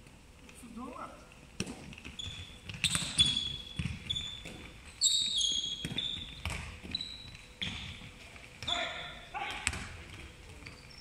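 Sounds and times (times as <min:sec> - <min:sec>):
ball bouncing and thudding: 0:01.5 - 0:10.9
sports shoes squeaking: 0:01.6 - 0:11.0.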